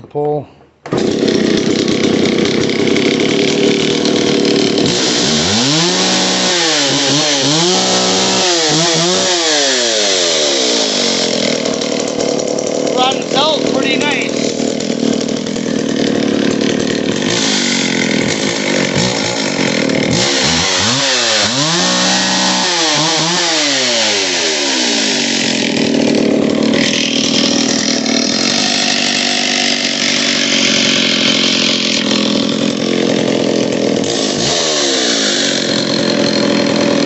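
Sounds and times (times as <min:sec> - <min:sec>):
chainsaw running: 0:00.8 - 0:37.0.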